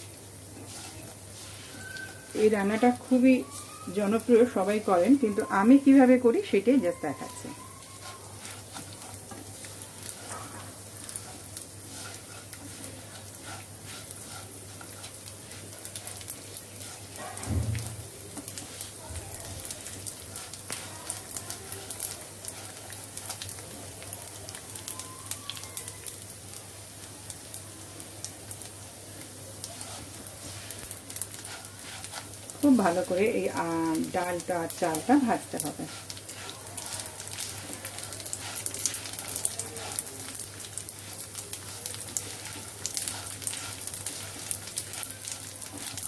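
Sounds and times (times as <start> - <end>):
food sizzling in oil: 0.0 - 46.0.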